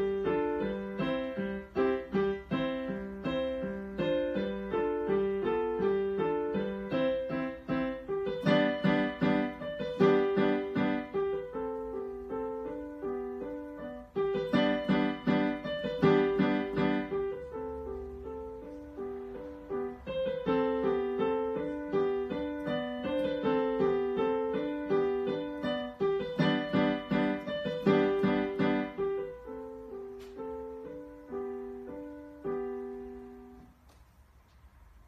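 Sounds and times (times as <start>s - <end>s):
digital piano march melody: 0.0s - 35.0s
repeated piano chords: 0.0s - 35.0s.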